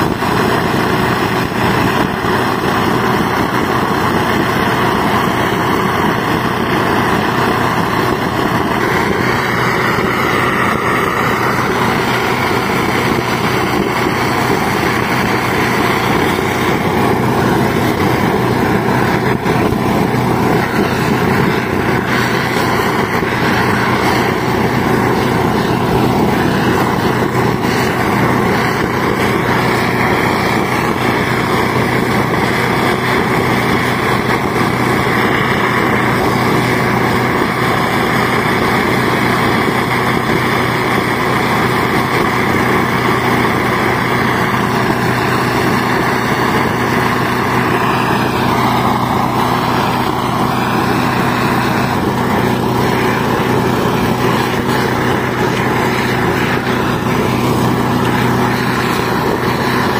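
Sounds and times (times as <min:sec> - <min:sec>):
small engine running steadily: 0:00.0 - 0:59.9.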